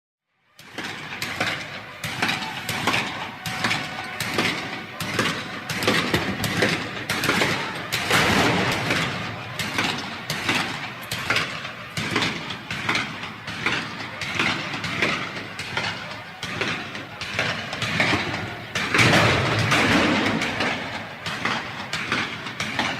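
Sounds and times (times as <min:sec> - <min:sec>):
battlefield gunfire cracks and bangs: 0:00.7 - 0:22.9.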